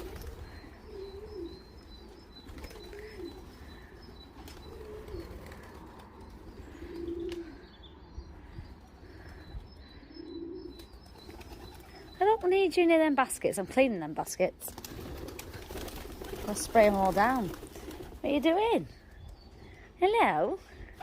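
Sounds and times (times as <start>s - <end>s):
pigeons cooing: 0.0s - 12.6s, 14.7s - 19.8s
small birds chirping: 0.0s - 21.0s.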